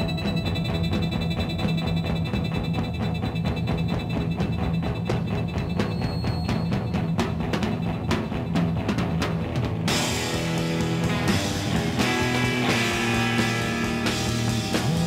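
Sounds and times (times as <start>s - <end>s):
music with drum beat and bass: 0.0s - 15.0s.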